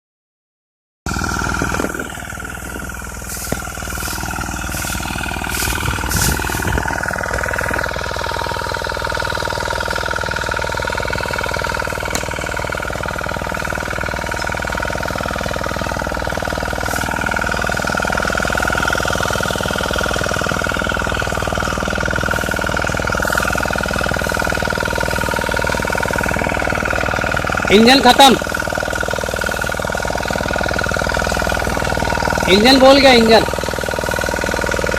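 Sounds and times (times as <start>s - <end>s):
generator engine running: 1.1s - 34.9s.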